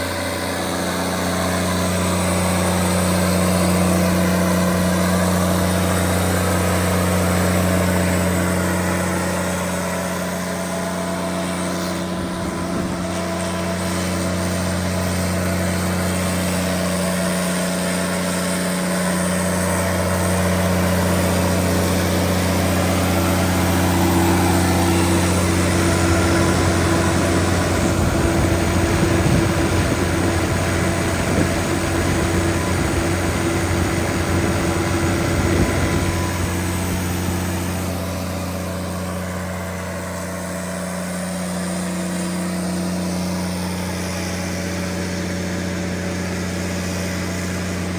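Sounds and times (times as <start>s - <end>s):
diesel generator engine running: 0.0s - 47.9s.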